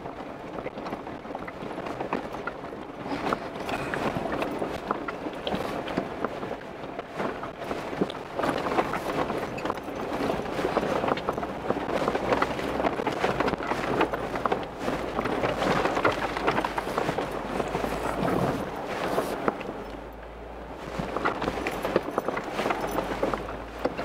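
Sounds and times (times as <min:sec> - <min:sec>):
low engine hum: 0:00.0 - 0:24.0
tyres crunching over dirt track: 0:00.0 - 0:24.0
clatter and rattling: 0:00.6 - 0:20.2, 0:20.8 - 0:24.0.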